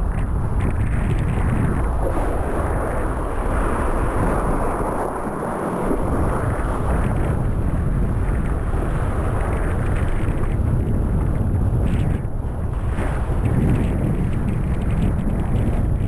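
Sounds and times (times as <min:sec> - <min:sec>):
water rushing under board: 0:00.0 - 0:16.0
wind buffeting microphone: 0:00.0 - 0:16.0.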